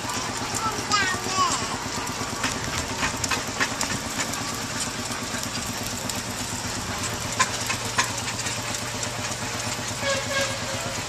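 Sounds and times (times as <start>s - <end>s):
steam traction engine running: 0.0s - 11.0s.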